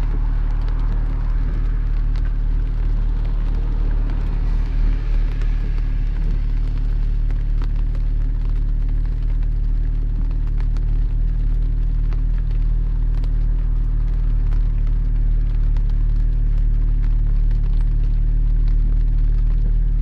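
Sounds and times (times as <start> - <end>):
car engine and tyres droning: 0.0 - 20.0
raindrops ticking on car: 0.0 - 20.0.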